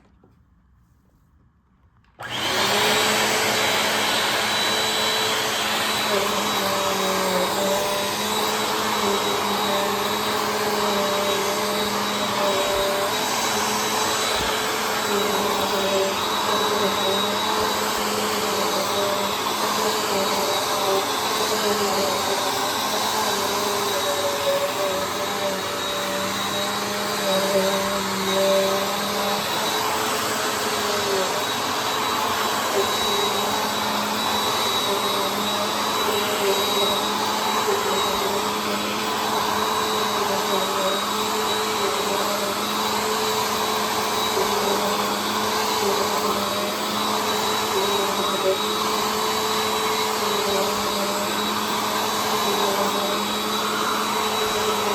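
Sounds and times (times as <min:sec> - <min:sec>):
vacuum cleaner running: 0:02.1 - 0:54.9.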